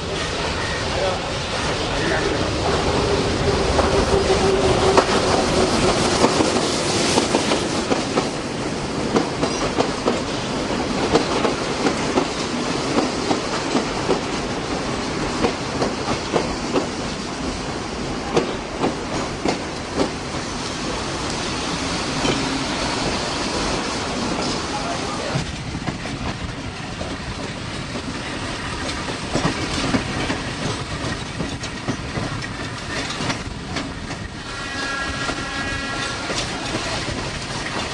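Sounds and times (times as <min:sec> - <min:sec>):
train rumbling on rails: 0:00.0 - 0:37.9
wheels clacking over rail joints: 0:01.6 - 0:37.9.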